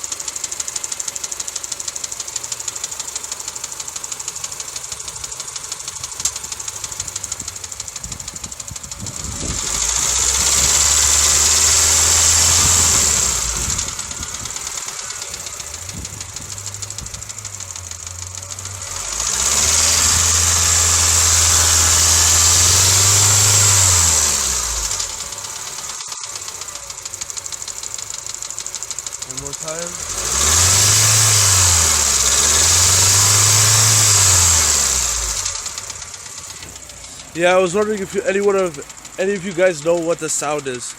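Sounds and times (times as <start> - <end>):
car engine idling with rattle: 0.0 - 40.9
car engine revving: 0.0 - 40.9.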